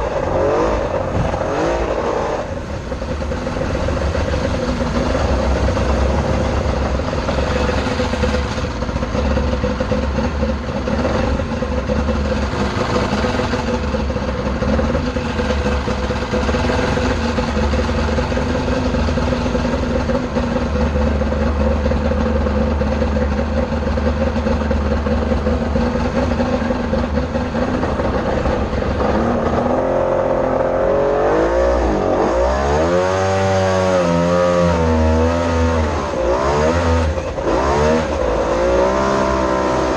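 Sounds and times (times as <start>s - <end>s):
boat engine revving: 0.0s - 39.9s.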